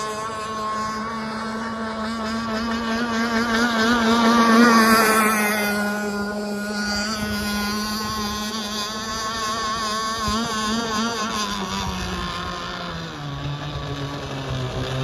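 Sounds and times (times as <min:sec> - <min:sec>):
model boat engine passing: 0:00.0 - 0:15.0.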